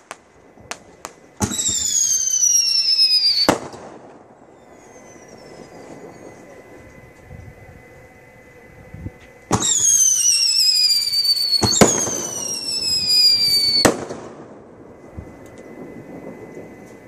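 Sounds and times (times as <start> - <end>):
firework bang: 0.0 - 7.0, 9.5 - 17.0
firework whistling falling in pitch: 0.0 - 17.0.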